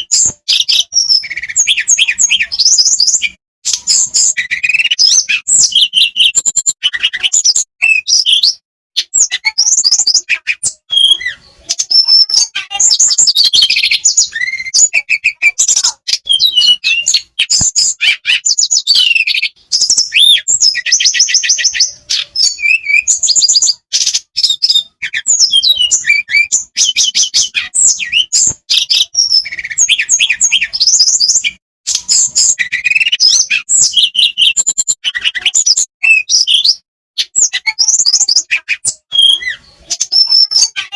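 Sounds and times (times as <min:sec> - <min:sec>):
bird song whistles and trills: 0:00.0 - 0:40.9.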